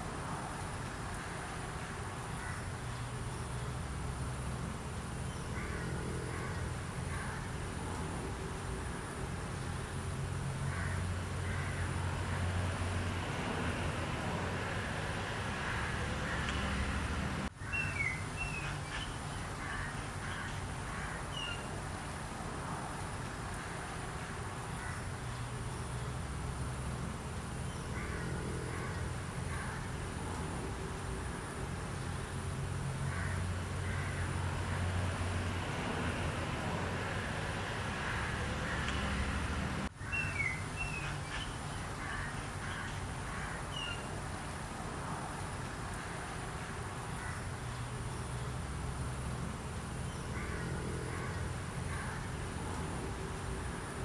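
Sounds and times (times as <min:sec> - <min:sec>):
low rumble and hiss: 0:00.0 - 0:54.0.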